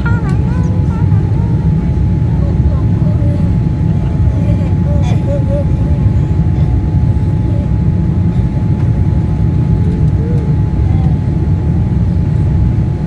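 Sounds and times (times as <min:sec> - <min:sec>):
airliner cabin low rumble: 0:00.0 - 0:13.0
thin steady whine: 0:00.0 - 0:13.0.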